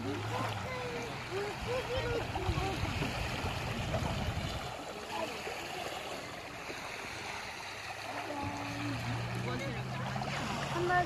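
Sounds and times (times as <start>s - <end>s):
small waves lapping on pebbles: 0.0s - 11.0s.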